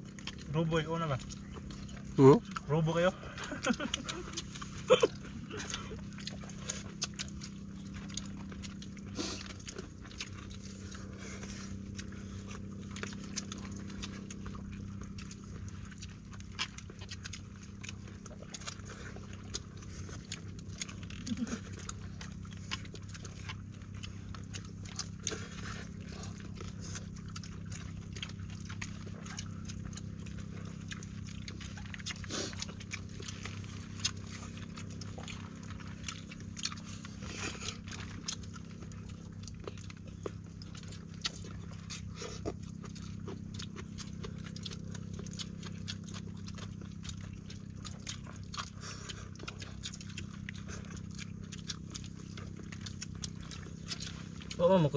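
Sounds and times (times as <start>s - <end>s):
low background rumble: 0.0s - 54.9s
people chewing: 0.0s - 54.9s
lip smacks: 3.3s - 54.6s.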